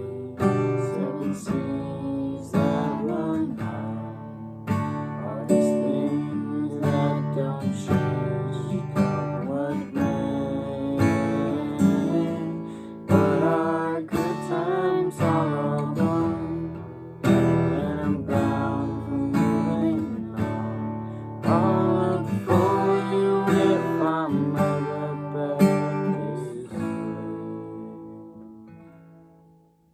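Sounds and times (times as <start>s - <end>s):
acoustic guitar strummed chords: 0.0s - 29.9s.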